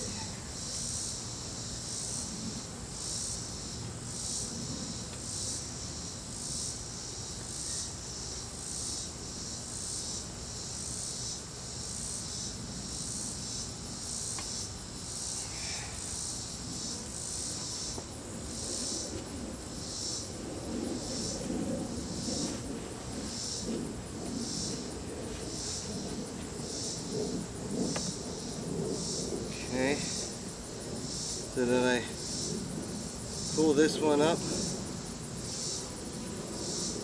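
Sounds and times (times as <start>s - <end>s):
cricket chirping: 0.0s - 37.0s.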